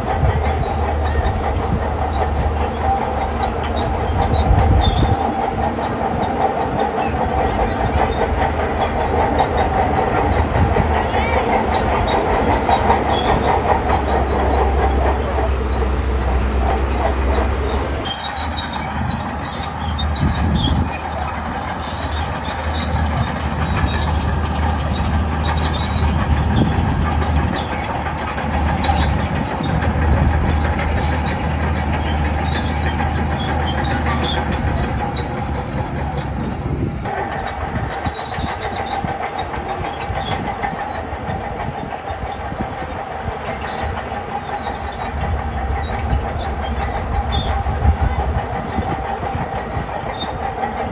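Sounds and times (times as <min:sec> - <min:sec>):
diesel engine under load: 0:00.0 - 0:50.9
steel tracks clanking and squealing: 0:00.0 - 0:50.9.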